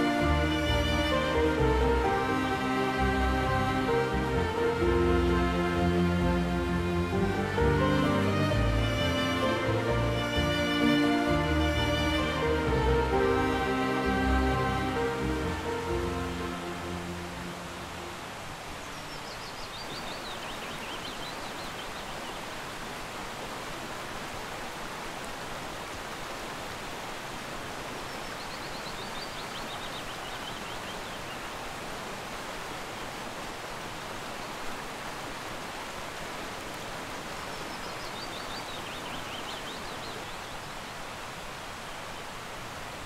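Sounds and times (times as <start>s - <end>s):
stream rushing over rocks: 0.0s - 43.0s.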